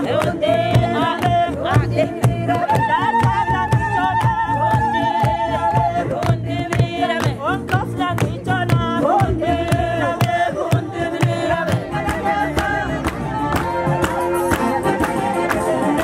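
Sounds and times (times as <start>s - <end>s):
hand-struck drum beat: 0.0s - 15.2s
hand clapping: 0.0s - 16.0s
women singing together: 0.0s - 16.0s.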